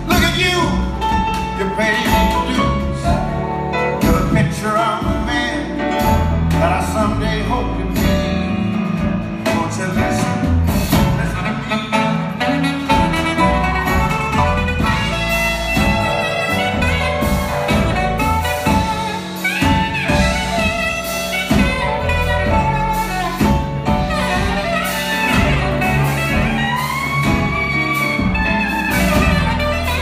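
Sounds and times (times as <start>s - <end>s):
saxophone melody: 0.0s - 8.4s, 10.9s - 30.0s
drums: 0.0s - 30.0s
piano: 0.0s - 30.0s
upright bass: 0.0s - 30.0s.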